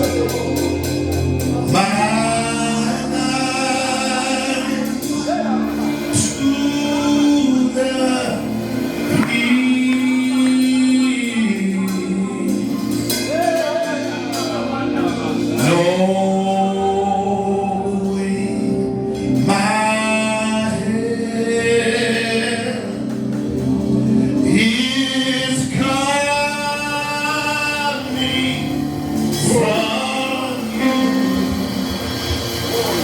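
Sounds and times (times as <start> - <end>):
gospel choir singing long notes: 0.0 - 33.0
instrumental backing: 0.0 - 33.0.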